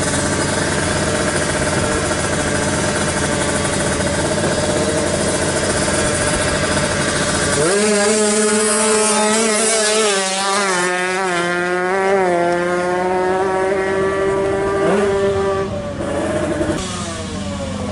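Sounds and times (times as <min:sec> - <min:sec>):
motorcycle engine revving high: 0:00.0 - 0:17.9.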